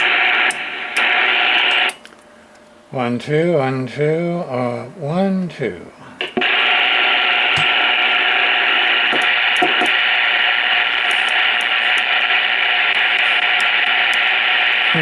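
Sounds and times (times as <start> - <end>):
radio static hiss: 0.0 - 2.0, 2.9 - 15.0.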